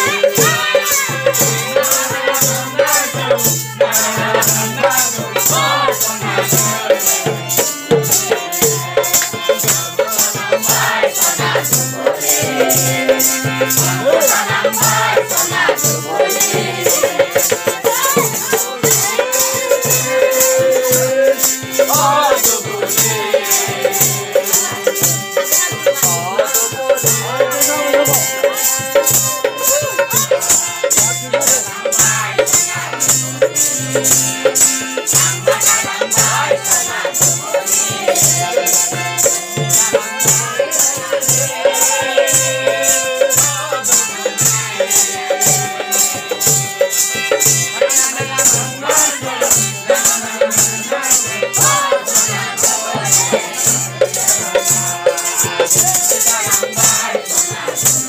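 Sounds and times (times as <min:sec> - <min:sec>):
harmonium held tones: 0:00.0 - 0:58.0
rattling percussion beat: 0:00.0 - 0:58.0.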